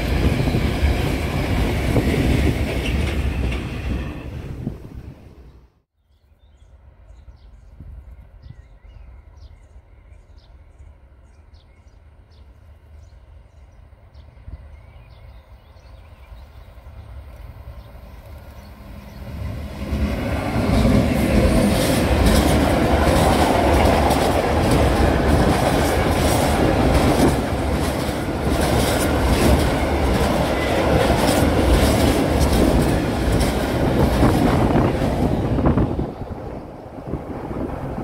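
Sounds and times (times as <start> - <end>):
diesel locomotive passing: 0.0 - 5.7, 10.5 - 38.0.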